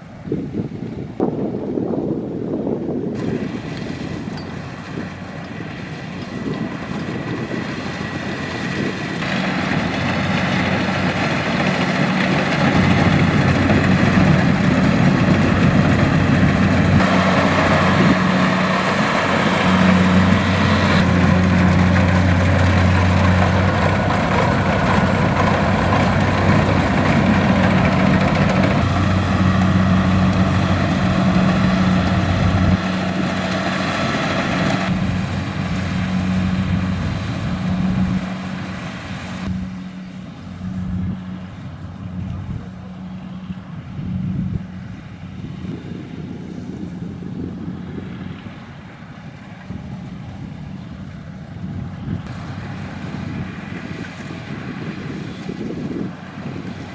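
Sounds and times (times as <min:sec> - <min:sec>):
combine harvester diesel engine: 0:00.0 - 0:56.9.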